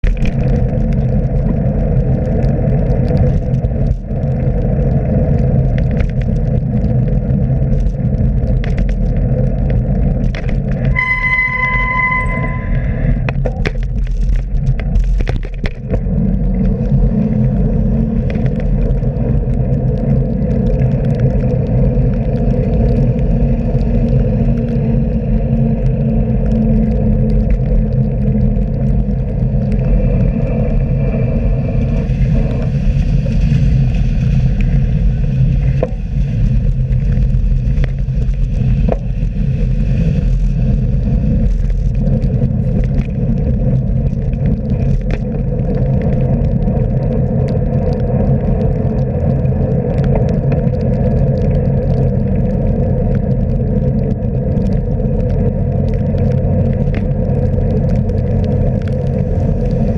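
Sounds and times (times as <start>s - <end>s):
bicycle clicks and rattles: 0.0s - 11.0s, 13.2s - 59.9s
road and traffic rumble: 0.0s - 59.9s.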